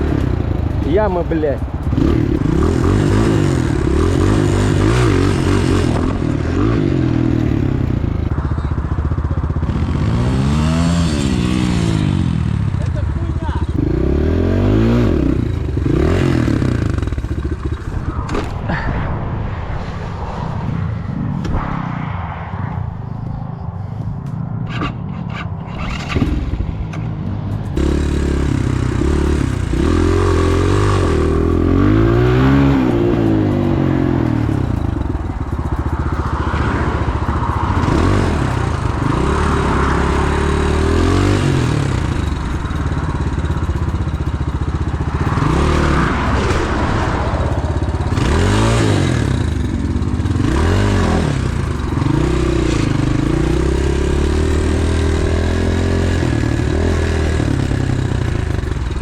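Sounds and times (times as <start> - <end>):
pit bike engine revving: 0.0 - 18.9, 27.7 - 59.0.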